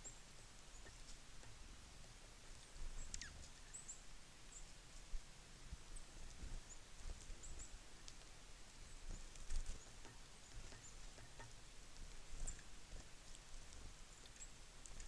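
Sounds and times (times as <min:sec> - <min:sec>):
songbirds chipping: 0:00.0 - 0:04.8, 0:06.0 - 0:15.0.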